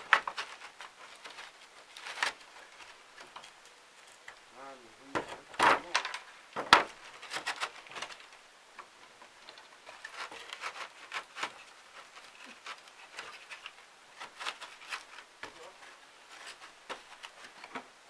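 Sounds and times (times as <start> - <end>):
materials handled on roof: 0.0 - 18.0.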